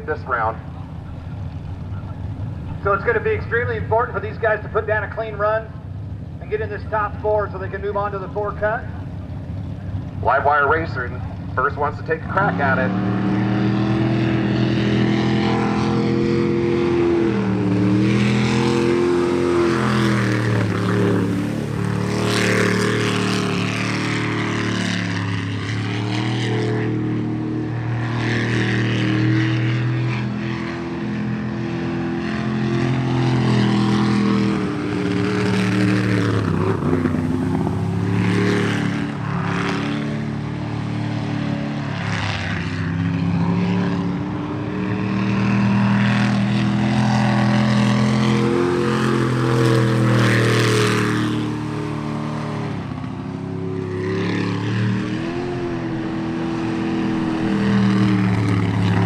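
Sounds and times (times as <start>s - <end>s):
jet boat engine revving: 0.0s - 59.0s.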